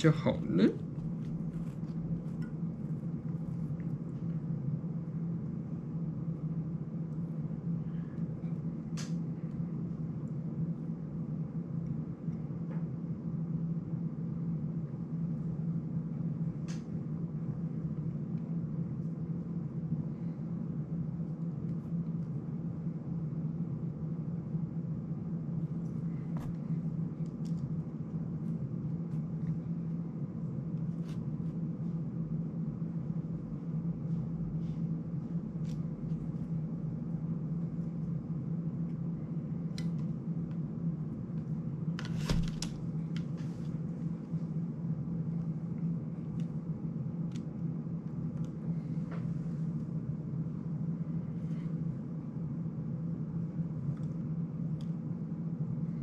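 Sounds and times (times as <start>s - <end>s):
low room hum: 0.0s - 56.0s.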